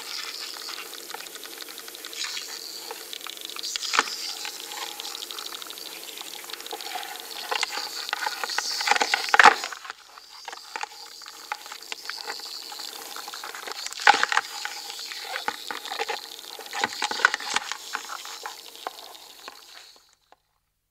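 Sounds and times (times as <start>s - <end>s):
crab claws clicking and scratching: 0.1s - 20.0s.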